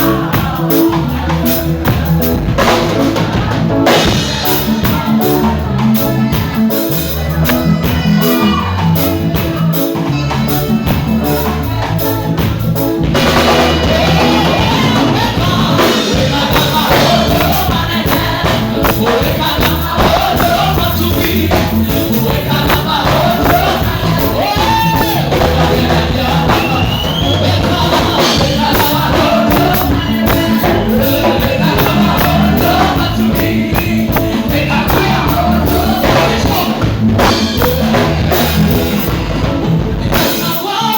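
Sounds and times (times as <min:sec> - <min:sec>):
gospel music with drums and bass: 0:00.0 - 0:40.9
voices singing: 0:00.0 - 0:40.9.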